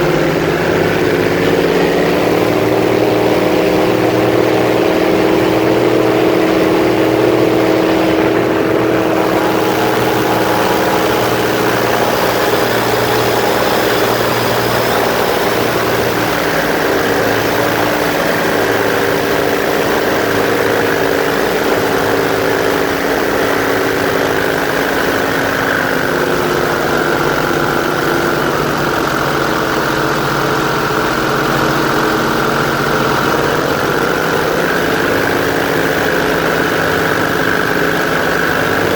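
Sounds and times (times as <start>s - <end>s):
airboat engine and propeller: 0.0s - 38.9s.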